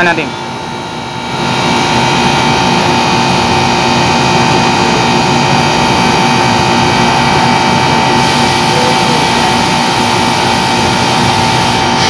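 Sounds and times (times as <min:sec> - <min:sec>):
air conditioner unit running: 0:00.0 - 0:12.0.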